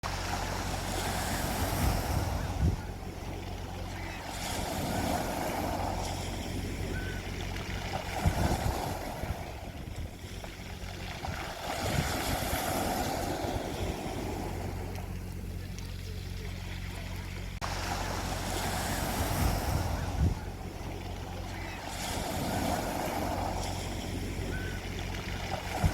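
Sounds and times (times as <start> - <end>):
wind gusts on microphone: 0.0 - 15.7, 17.6 - 25.9
low motor hum: 0.0 - 25.9
sea waves washing onto beach: 0.0 - 25.9.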